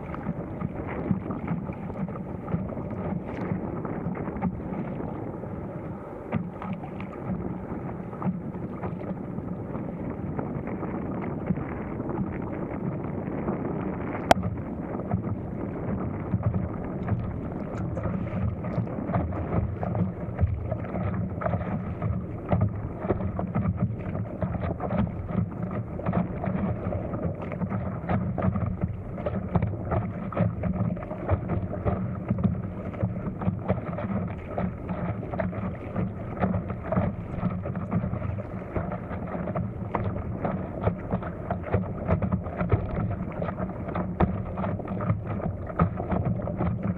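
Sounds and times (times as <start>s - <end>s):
water splashing against paddleboard: 0.0s - 46.9s
wind buffeting microphone: 0.0s - 46.9s.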